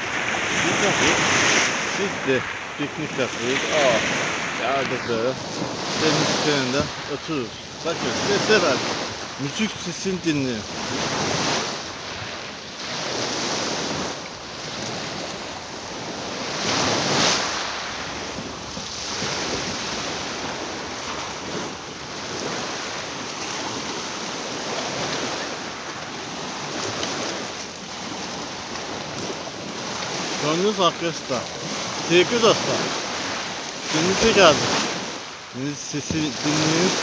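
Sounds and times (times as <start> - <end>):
waves breaking on pebble beach: 0.0 - 37.0.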